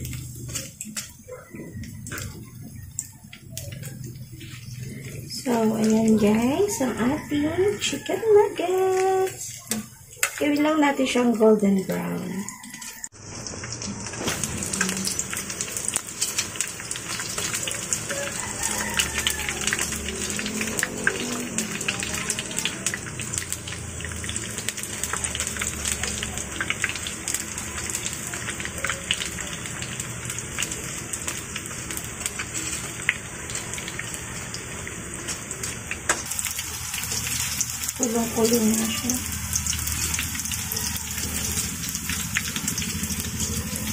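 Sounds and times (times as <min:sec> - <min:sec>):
food sizzling in hot oil: 0:00.0 - 0:43.9.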